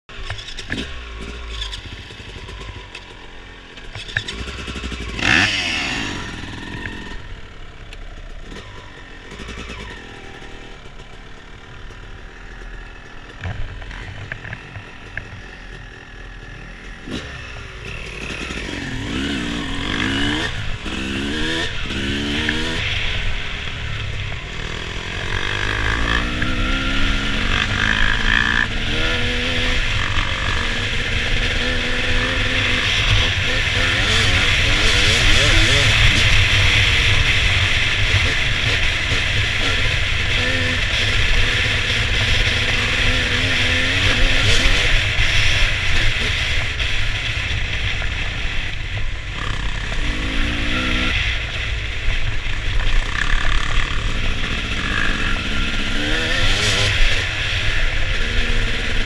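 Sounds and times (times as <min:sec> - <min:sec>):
dirt bike engine revving: 0:00.2 - 0:59.0.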